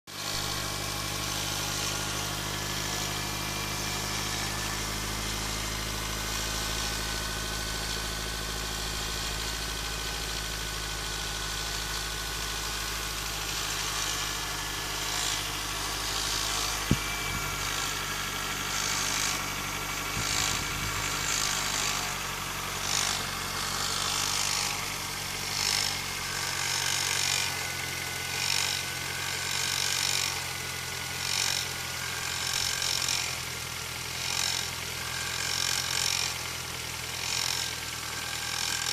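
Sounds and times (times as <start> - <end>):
car engine running with a knock: 0.1 - 38.9.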